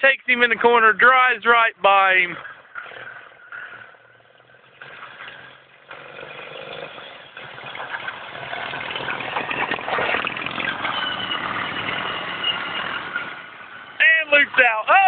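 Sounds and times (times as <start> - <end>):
racing lawn mower engines: 0.0 - 15.0.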